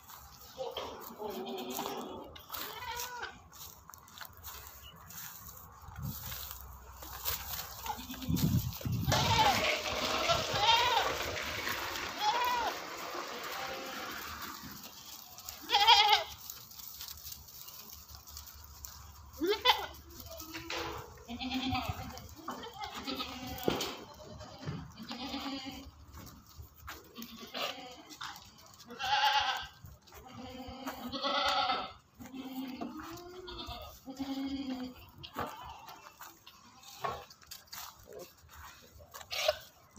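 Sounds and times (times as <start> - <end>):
goats bleating: 0.0 - 5.4, 6.2 - 39.9.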